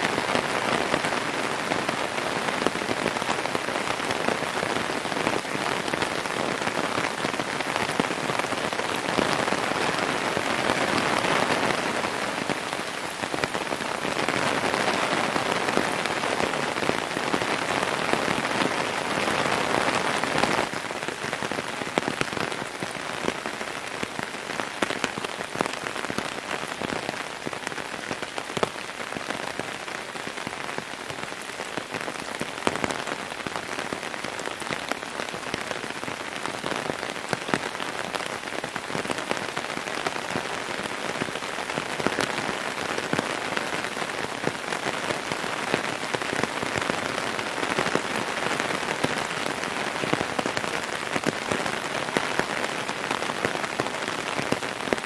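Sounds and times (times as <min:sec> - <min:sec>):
heavy rain hissing: 0:00.0 - 0:55.0
raindrops striking sharply: 0:00.0 - 0:55.0.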